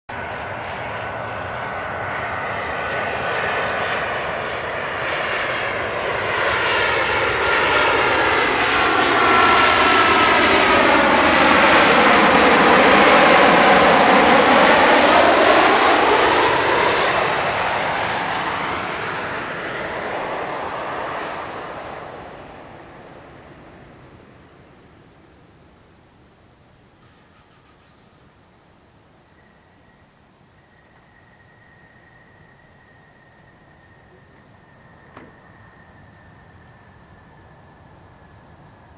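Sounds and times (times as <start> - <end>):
jet airliner roar passing: 0.1 - 25.6, 29.3 - 38.9.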